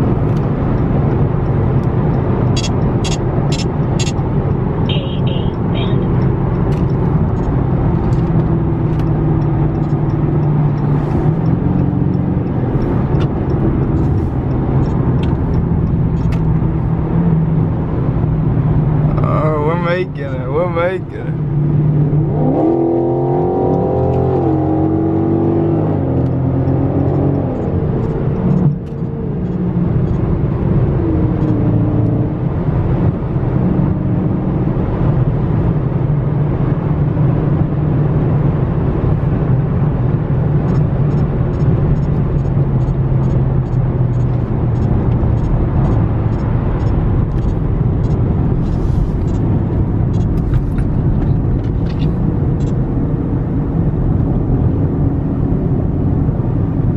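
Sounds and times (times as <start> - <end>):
car engine accelerating and cruising: 0.0 - 56.9.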